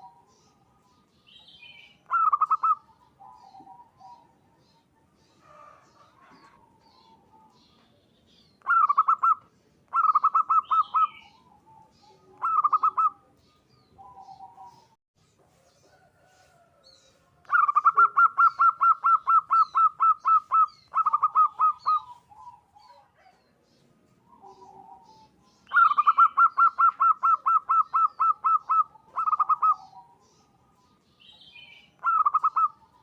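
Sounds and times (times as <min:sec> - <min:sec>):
dove staccato cooing song: 0:00.0 - 0:33.0.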